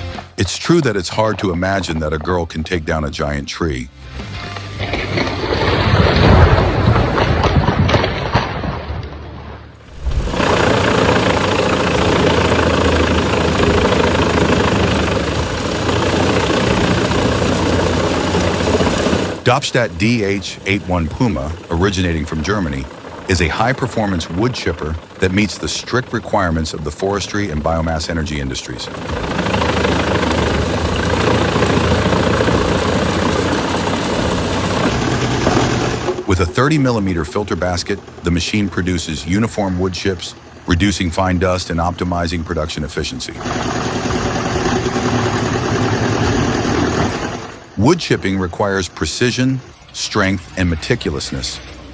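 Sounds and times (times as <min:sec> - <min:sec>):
wood chipper running: 0:04.2 - 0:08.6, 0:09.8 - 0:51.9
heavy machine engine droning: 0:09.4 - 0:51.9.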